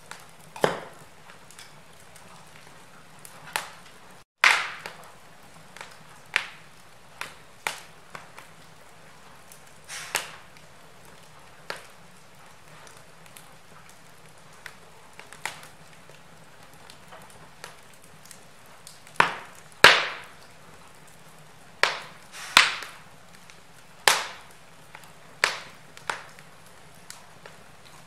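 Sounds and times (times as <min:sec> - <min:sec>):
burning logs popping: 0:00.0 - 0:28.0
faint fire hiss: 0:00.0 - 0:28.0
wood fire crackling: 0:00.0 - 0:28.0.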